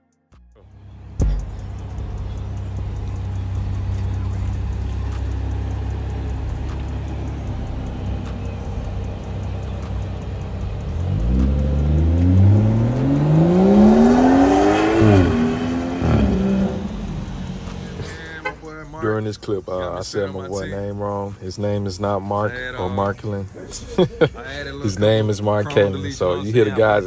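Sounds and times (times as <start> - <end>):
car engine idling: 0.6 - 27.0
car engine revving: 0.6 - 27.0.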